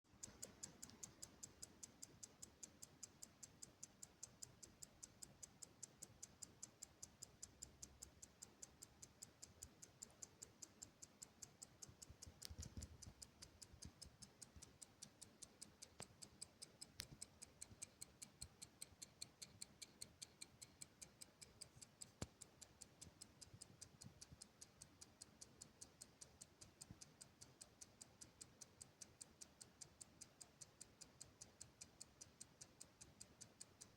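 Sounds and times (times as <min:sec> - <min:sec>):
clock ticking: 0:00.1 - 0:33.9.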